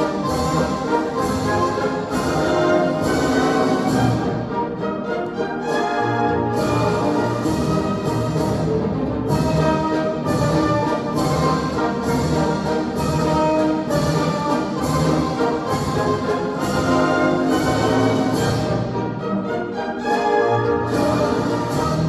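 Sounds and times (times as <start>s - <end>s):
orchestral music with brass: 0.0s - 22.0s.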